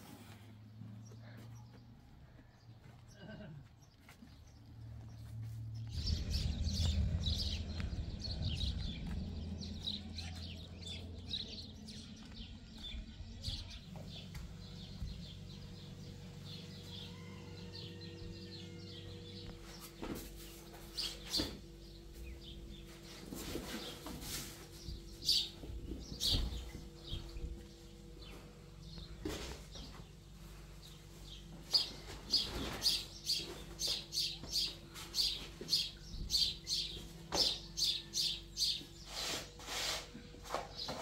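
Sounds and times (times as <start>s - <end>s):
small birds chirping: 0.8s - 41.0s
steady low hum: 4.4s - 41.0s
low steady rumble: 4.6s - 39.0s.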